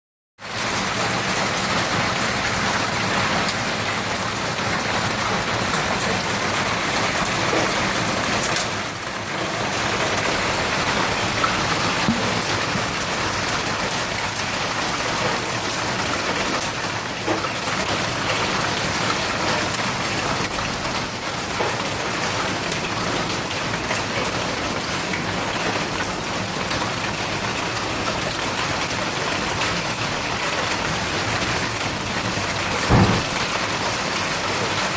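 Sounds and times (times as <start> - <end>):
hail pounding on roofs: 0.5 - 34.9.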